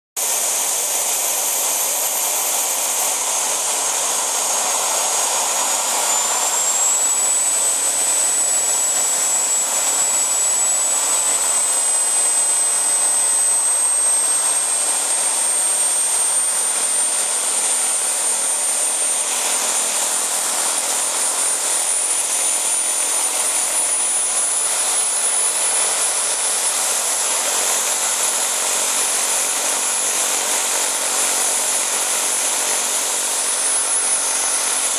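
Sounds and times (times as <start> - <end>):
turbine rushing and whining: 0.2 - 34.9.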